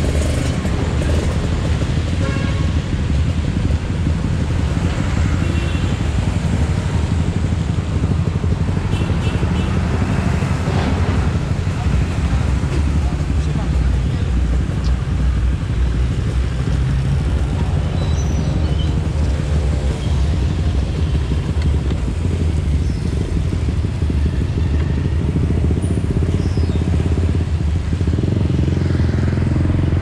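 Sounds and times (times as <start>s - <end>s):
two-stroke motorcycle engine idling: 0.0s - 10.5s, 11.3s - 29.1s.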